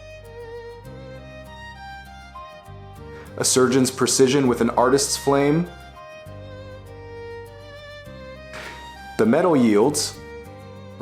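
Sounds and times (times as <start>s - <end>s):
slow melodic violin: 0.0s - 11.0s.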